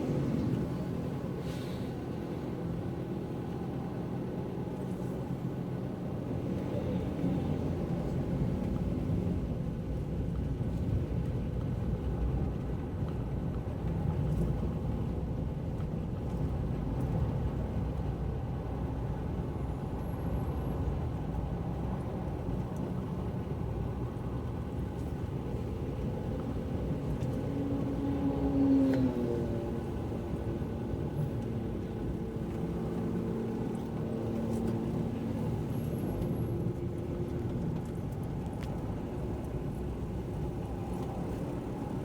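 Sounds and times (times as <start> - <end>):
car driving on wet roads: 0.0 - 42.0.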